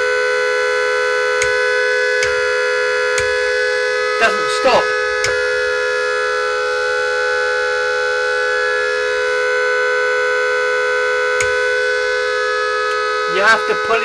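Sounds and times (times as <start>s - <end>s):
steady car horn note: 0.0s - 14.0s
switch click: 1.3s - 10.4s, 11.0s - 13.9s.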